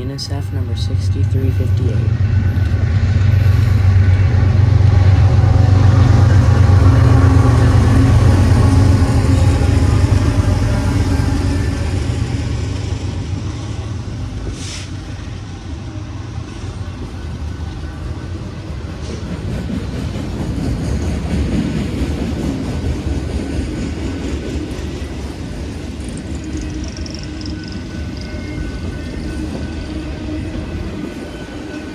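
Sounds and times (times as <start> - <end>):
wheels rumbling on rail: 0.0 - 31.9.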